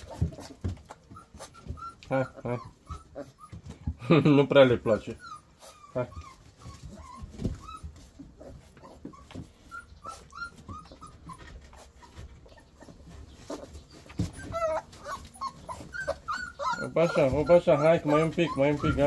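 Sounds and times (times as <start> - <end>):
puppy whimpering in high squeaks: 1.1 - 4.0, 5.0 - 19.0.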